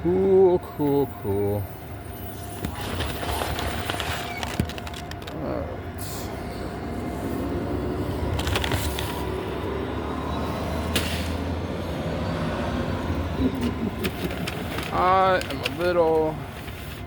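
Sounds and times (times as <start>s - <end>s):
large vehicle rumbling: 0.0s - 17.0s.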